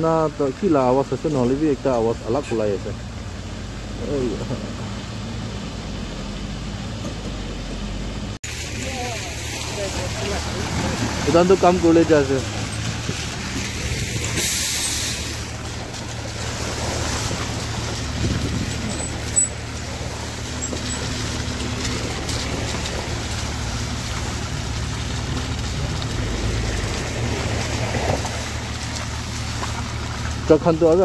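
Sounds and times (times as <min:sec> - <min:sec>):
cars driving past on wet road: 0:00.0 - 0:31.0
low rumble: 0:02.8 - 0:30.6.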